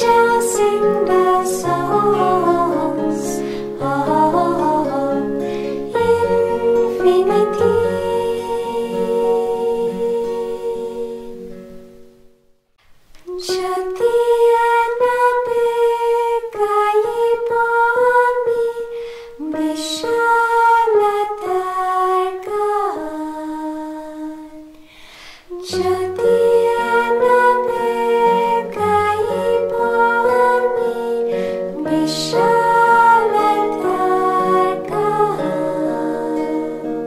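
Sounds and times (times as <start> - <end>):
women's group singing: 0.0 - 11.5, 13.3 - 24.6, 25.6 - 37.0.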